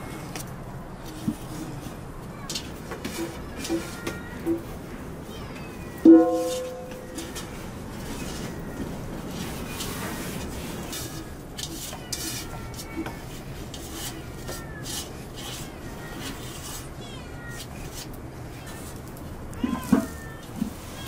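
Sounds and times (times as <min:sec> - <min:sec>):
hands kneading dough: 0:00.0 - 0:04.8, 0:06.0 - 0:21.0.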